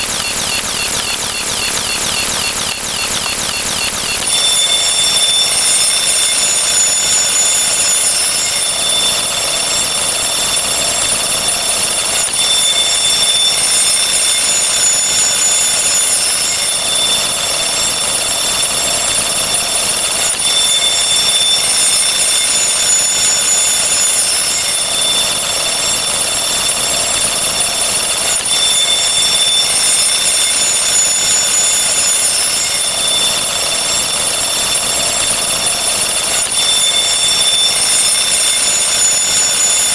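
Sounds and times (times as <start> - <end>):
electronic counting sound effects: 0.0 - 39.9.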